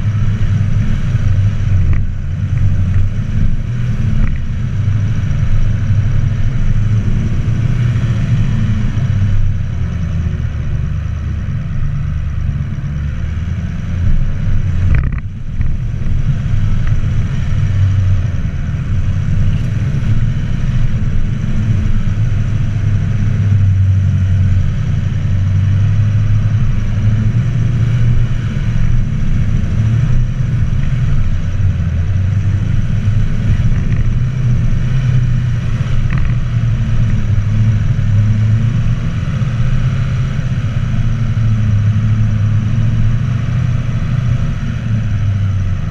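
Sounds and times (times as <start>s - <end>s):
vehicle engine climbing a hill: 0.0s - 45.9s.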